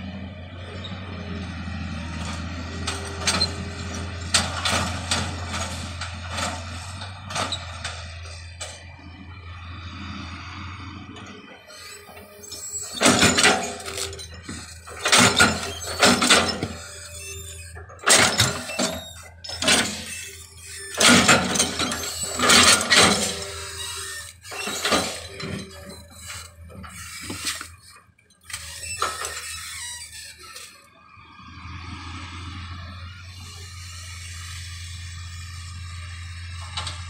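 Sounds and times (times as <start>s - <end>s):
excavator engine hum: 0.0s - 37.0s.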